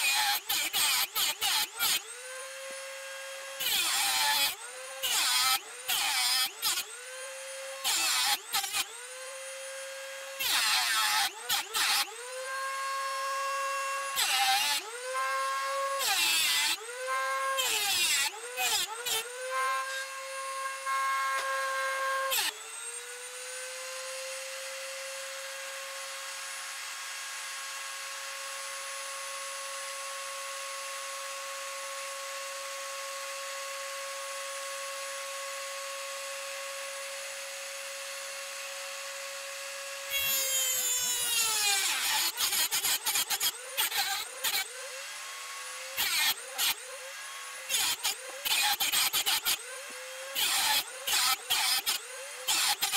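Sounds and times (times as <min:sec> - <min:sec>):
rotary tool grinding metal: 0:00.0 - 0:27.0, 0:37.2 - 0:52.9
rotary tool high whine: 0:00.0 - 0:52.9.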